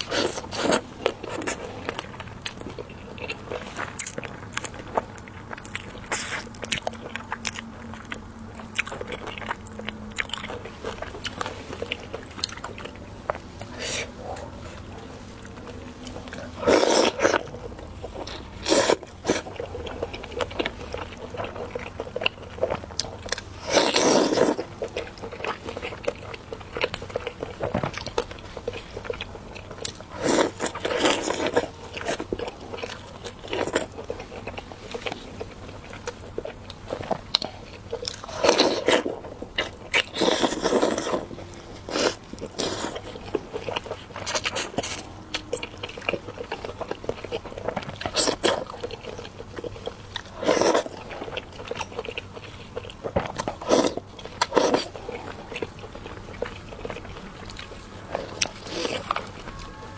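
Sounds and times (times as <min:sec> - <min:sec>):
crunchy bites and chewing: 0:00.0 - 0:59.9.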